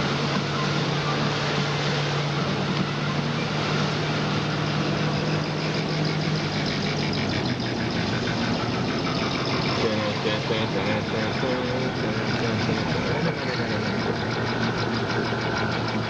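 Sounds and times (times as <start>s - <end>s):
low engine hum: 0.0s - 16.0s
tyres on wet road: 0.0s - 16.0s.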